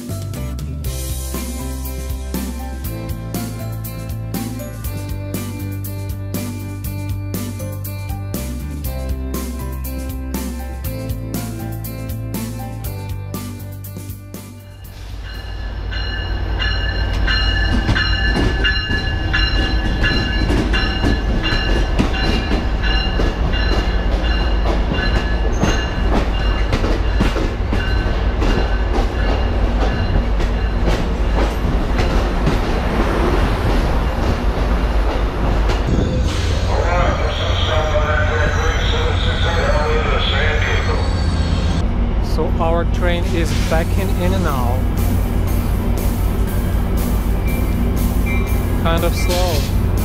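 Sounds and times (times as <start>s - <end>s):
passenger train rumble: 0.0s - 50.0s.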